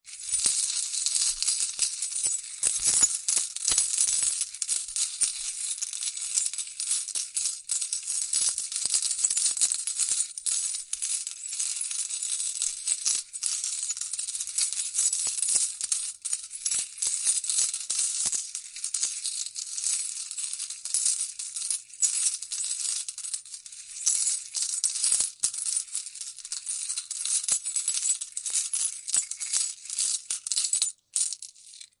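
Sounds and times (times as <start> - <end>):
coins falling and clinking: 0.1 - 11.5, 12.4 - 32.0.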